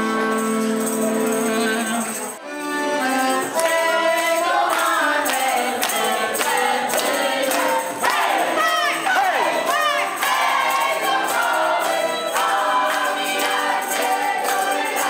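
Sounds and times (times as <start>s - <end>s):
folk-dance band playing: 0.0s - 15.0s
tambourine jingling: 0.0s - 15.0s.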